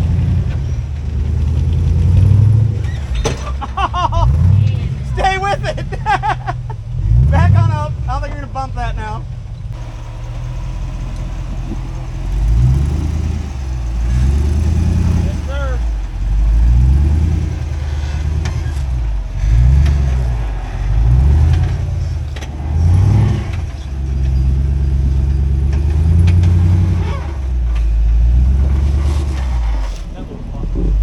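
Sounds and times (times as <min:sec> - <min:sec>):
engine revving: 0:00.0 - 0:31.0.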